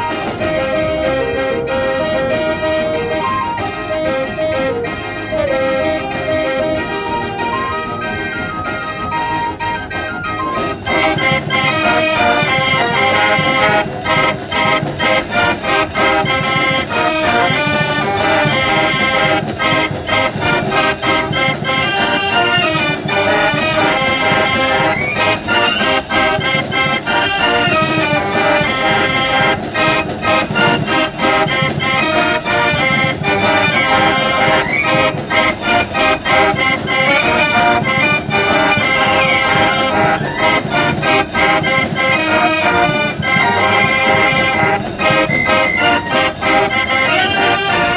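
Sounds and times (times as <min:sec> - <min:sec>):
organ percussion beat: 0:00.0 - 0:47.9
organ playing chords: 0:00.0 - 0:47.9.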